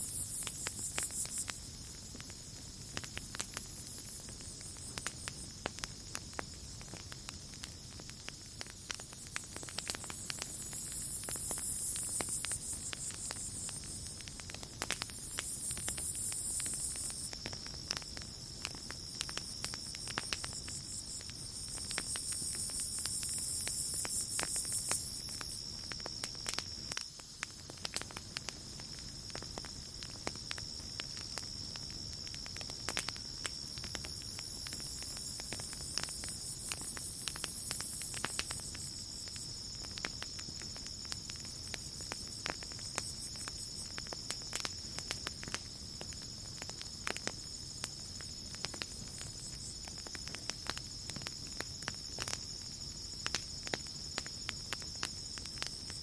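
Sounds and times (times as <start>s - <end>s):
campfire crackling and popping: 0.0s - 56.0s
cricket trill: 0.0s - 56.0s.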